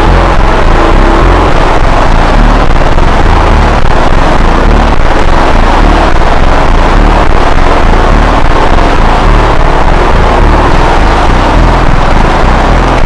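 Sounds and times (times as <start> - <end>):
distorted emergency alarm blare: 0.0 - 13.0.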